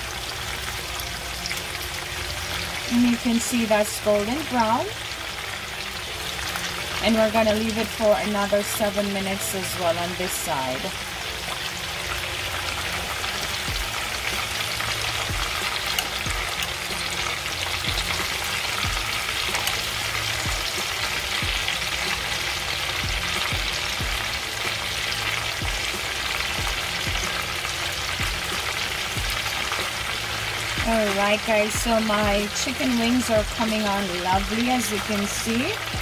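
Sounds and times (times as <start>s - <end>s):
chicken frying in oil: 0.0s - 36.0s.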